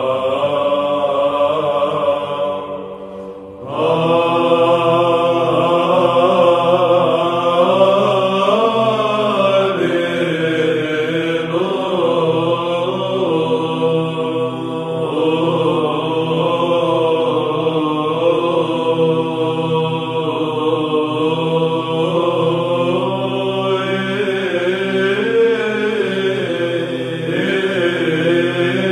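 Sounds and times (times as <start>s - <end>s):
choir chanting melody: 0.0s - 28.9s.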